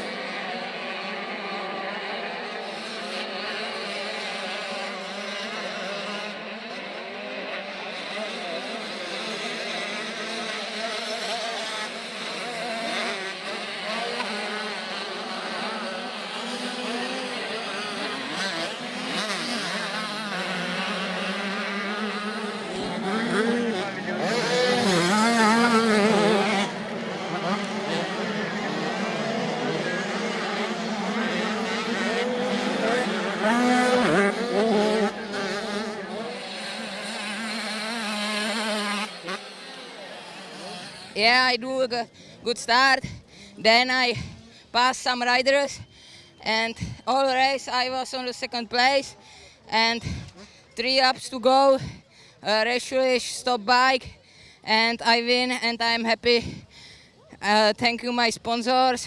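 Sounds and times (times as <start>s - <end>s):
motocross bike engines buzzing: 0.0s - 59.0s.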